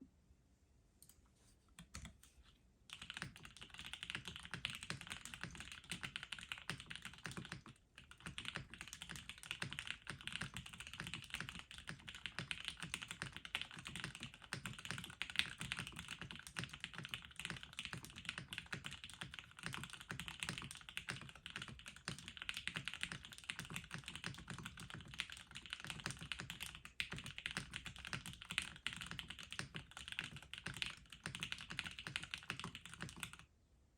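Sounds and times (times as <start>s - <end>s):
mechanical keyboard typing: 1.8s - 2.3s, 2.9s - 33.4s.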